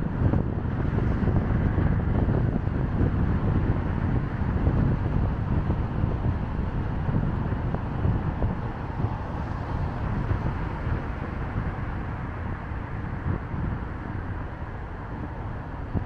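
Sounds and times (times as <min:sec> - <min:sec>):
car road noise: 0:00.0 - 0:16.0
wind rumble on microphone: 0:00.0 - 0:16.0.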